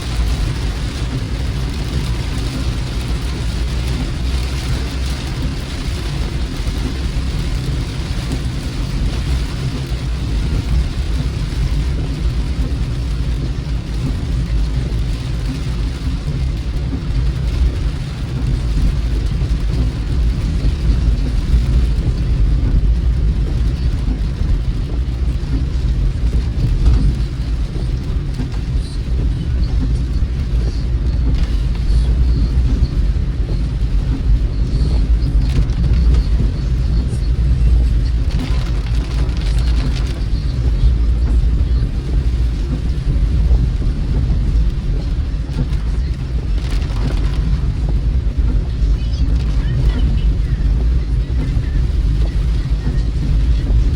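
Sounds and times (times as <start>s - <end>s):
rain hiss on wet road: 0.0s - 53.9s
road and engine rumble: 0.0s - 53.9s.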